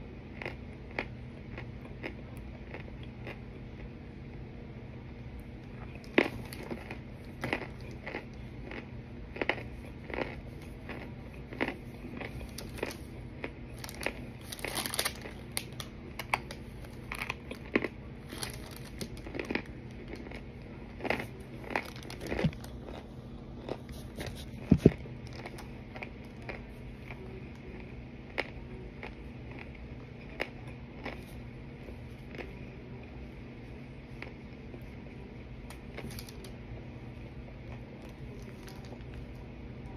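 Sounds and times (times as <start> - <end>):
steady low hum: 0.0 - 39.9
person crunching and chewing: 0.3 - 3.9, 5.6 - 33.1, 35.7 - 36.5, 37.7 - 39.3.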